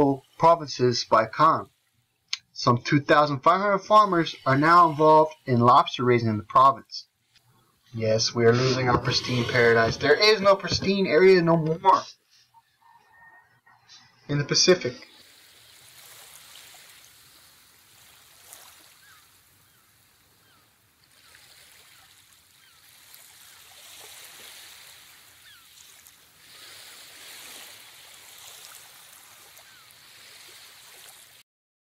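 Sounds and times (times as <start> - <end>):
faint rushing water: 0.0 - 12.4, 13.4 - 31.4.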